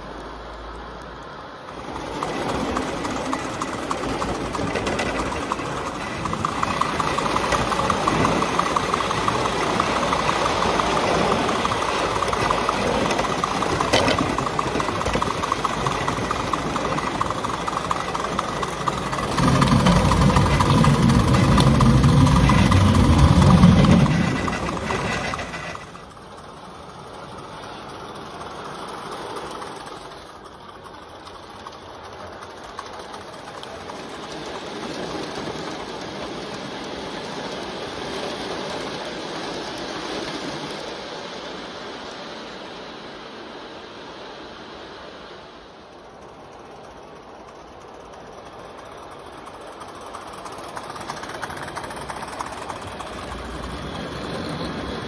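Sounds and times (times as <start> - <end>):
model locomotive clattering on track: 0.0 - 43.4, 45.8 - 55.0.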